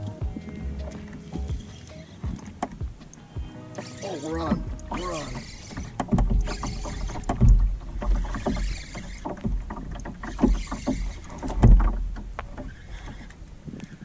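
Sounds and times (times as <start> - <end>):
knocks and thumps in a canoe: 0.0 - 14.0.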